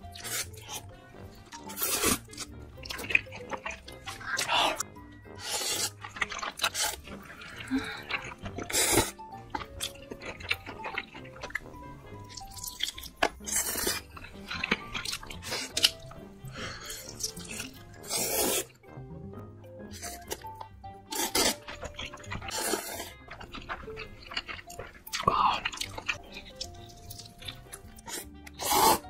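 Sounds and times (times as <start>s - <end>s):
soft background music: 0.0s - 29.0s
noodle slurping: 0.1s - 18.8s, 21.1s - 29.0s.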